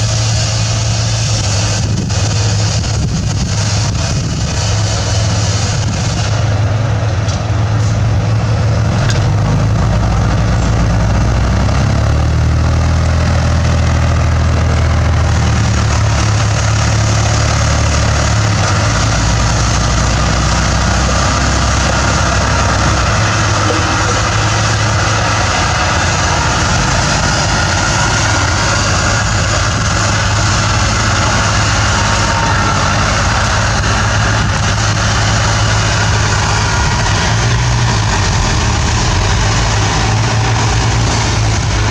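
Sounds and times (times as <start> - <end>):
bulldozer diesel engine droning: 0.0 - 41.9.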